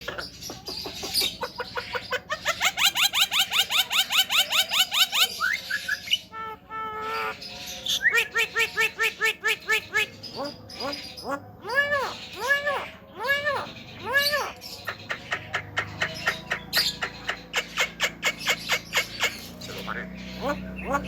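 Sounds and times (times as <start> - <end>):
bird squawky calls: 0.0 - 21.0.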